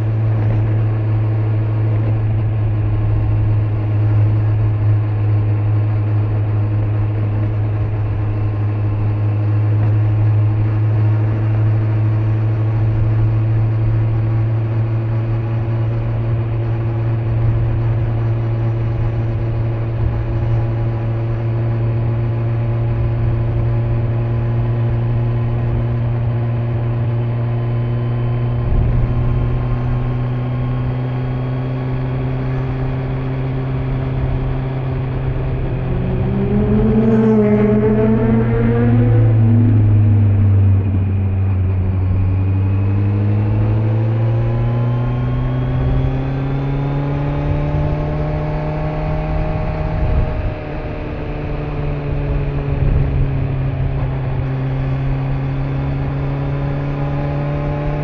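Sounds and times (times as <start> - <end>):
motorcycle engine revving: 0.0 - 58.0
road and wind noise: 0.0 - 58.0.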